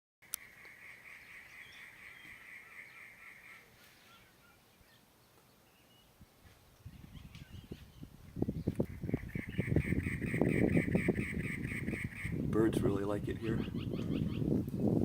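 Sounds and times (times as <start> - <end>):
faint bird calls: 0.2 - 6.2, 6.8 - 12.4, 13.5 - 14.5.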